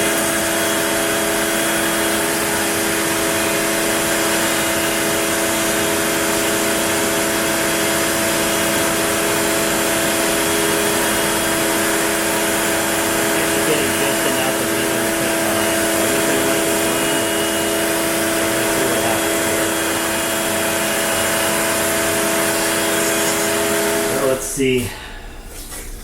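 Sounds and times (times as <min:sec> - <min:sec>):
cnc router cutting wood: 0:00.0 - 0:24.8.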